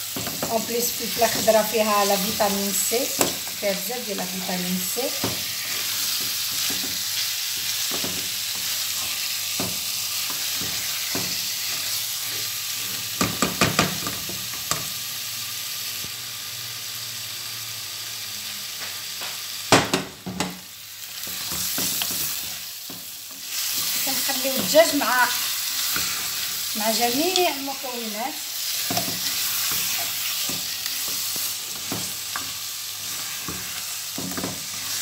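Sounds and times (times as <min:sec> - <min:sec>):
food sizzling in a pot: 0:00.0 - 0:35.0.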